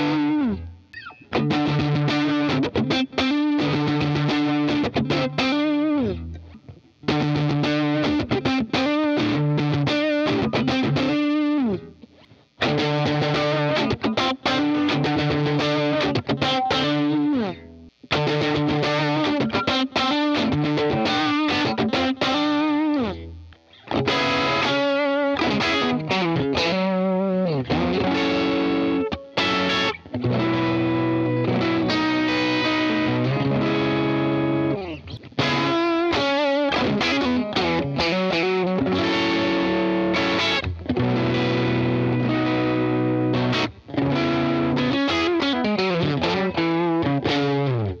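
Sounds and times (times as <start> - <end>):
overdriven electric guitar riff: 0.0 - 48.0.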